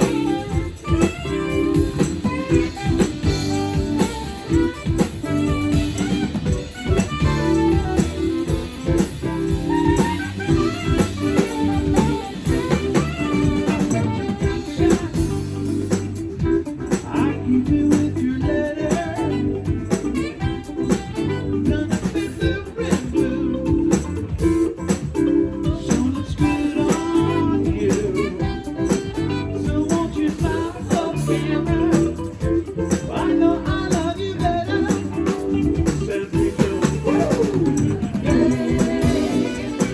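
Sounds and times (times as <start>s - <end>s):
bass line: 0.0s - 39.9s
guitar: 0.0s - 39.9s.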